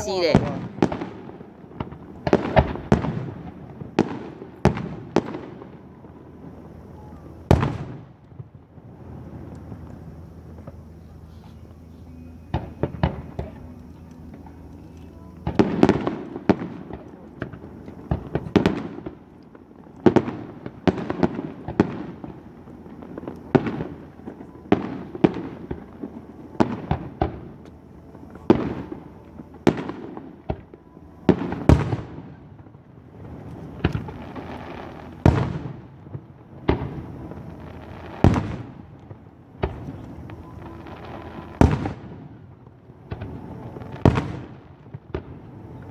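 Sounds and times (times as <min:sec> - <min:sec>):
fireworks bursting with echo: 0:00.0 - 0:45.9.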